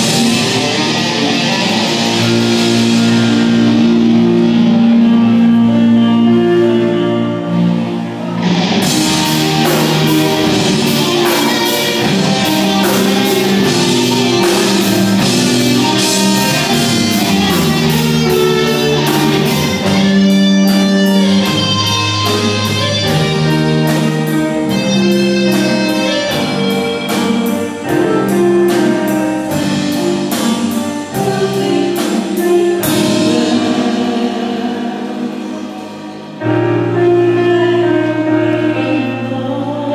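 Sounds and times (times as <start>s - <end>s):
drum kit cymbal beat: 0.0s - 6.2s, 8.4s - 36.4s
live rock band playing: 0.0s - 39.9s.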